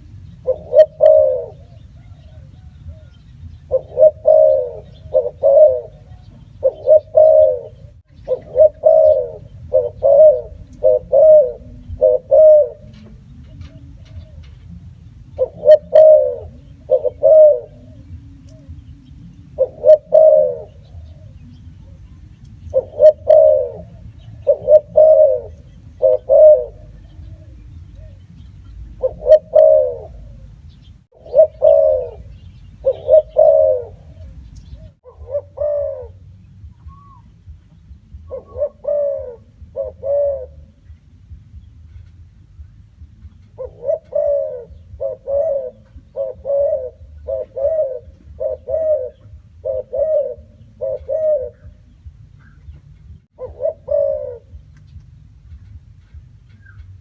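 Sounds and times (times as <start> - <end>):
dove cooing: 0.0 - 57.0
steady low hum: 0.0 - 57.0.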